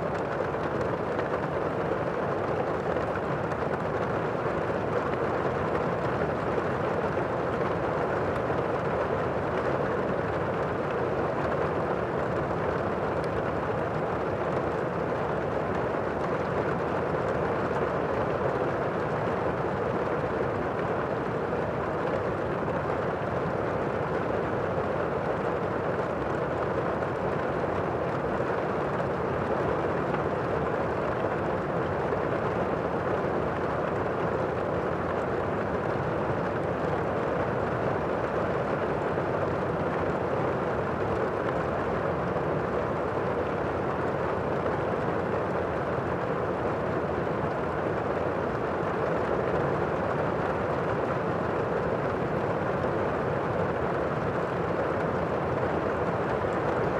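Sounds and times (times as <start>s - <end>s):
muffled steady rain: 0.0s - 56.9s.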